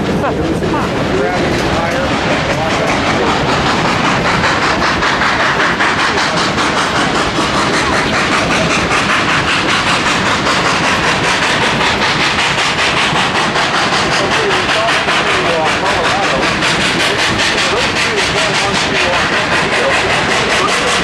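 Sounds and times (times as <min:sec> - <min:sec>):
train cars rumbling on rails: 0:00.0 - 0:21.0.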